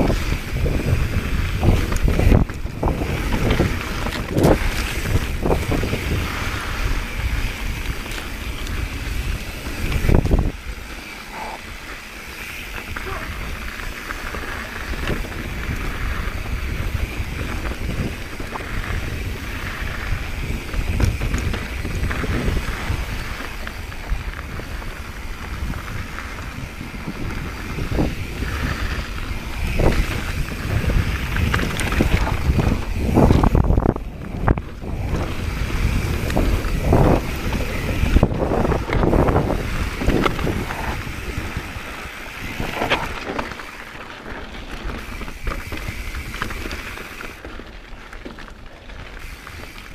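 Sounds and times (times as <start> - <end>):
bike knocking and clattering: 0.0 - 49.9
tyres rolling on dirt: 0.0 - 49.9
wind rushing over microphone: 0.0 - 49.9.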